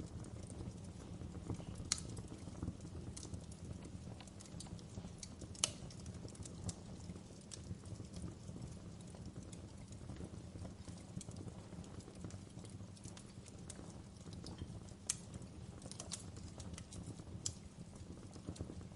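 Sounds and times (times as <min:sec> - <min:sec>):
loud fire pops: 0:00.0 - 0:18.9
wood fire crackling: 0:00.0 - 0:18.9.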